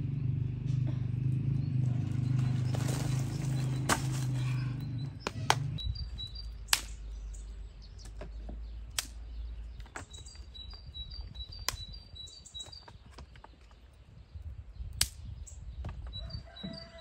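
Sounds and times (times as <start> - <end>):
small bird chirping: 1.5 - 17.0.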